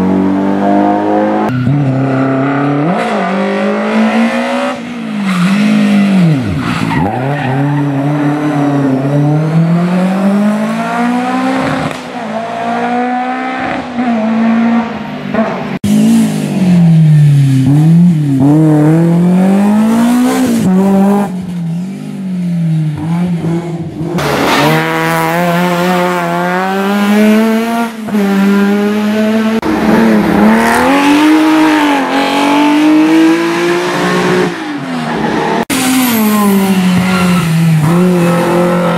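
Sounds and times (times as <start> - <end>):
rally car engines revving: 0.0 - 38.9.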